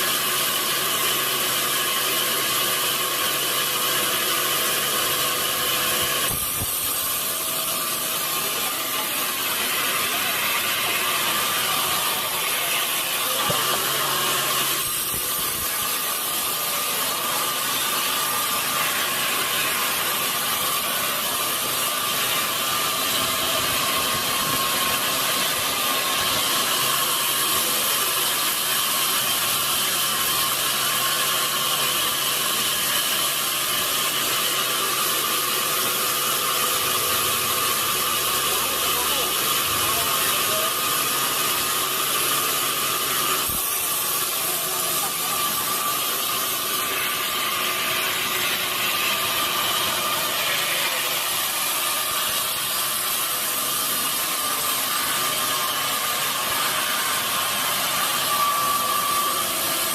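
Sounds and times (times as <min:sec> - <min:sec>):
saw blade whining through log: 0:00.0 - 0:59.9.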